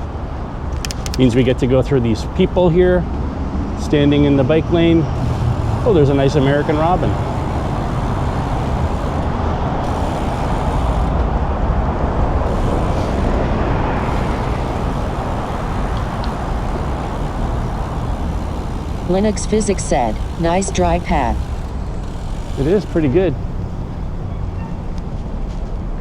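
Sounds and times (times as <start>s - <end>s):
bicycle road noise: 0.0s - 26.0s.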